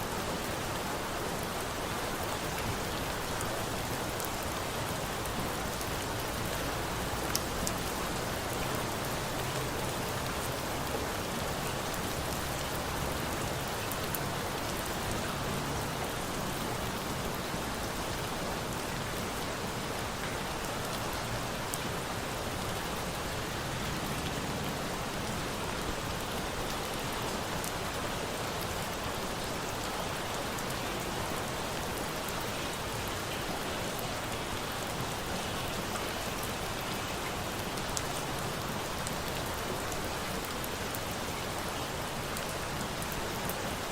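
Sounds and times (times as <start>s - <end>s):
steady rain: 0.0s - 43.9s.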